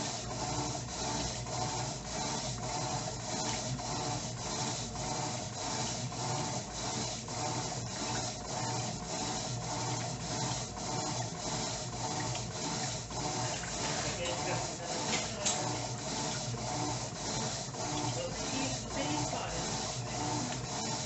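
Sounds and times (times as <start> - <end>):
motor hum: 0.0 - 21.0
washing machine swishing clothes: 0.0 - 21.0.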